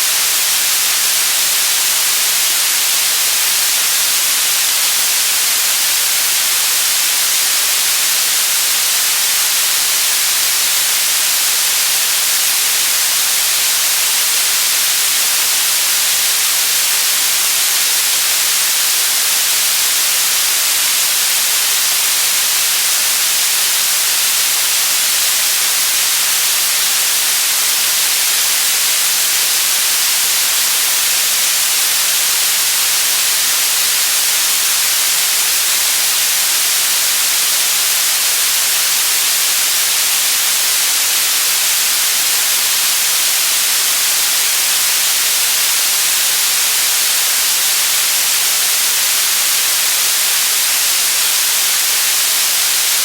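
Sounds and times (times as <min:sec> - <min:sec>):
loud white noise hiss: 0:00.0 - 0:53.0.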